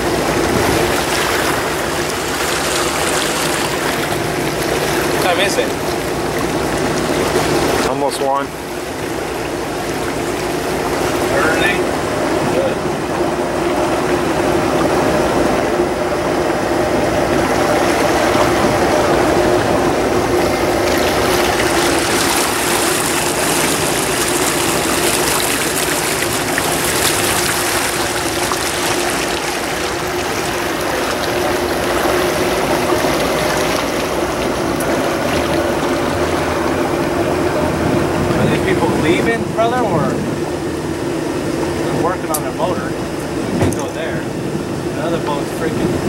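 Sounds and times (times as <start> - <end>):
boat engine running: 0.0 - 46.0
water rushing along hull: 0.0 - 46.0.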